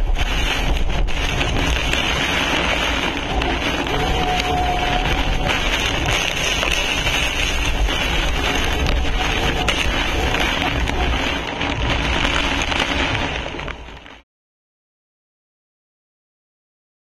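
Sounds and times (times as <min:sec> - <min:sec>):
strong wind and driving rain: 0:00.0 - 0:14.2.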